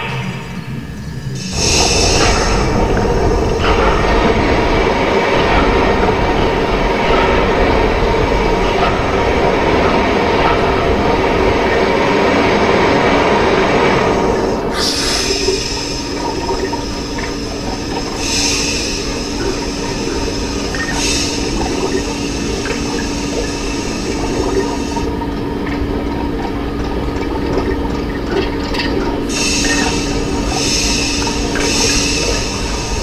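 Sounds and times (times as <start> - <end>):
hissing bursts: 0.0 - 25.1, 29.3 - 33.0
gurgling water: 0.0 - 33.0
machine rumble and hum: 0.0 - 33.0.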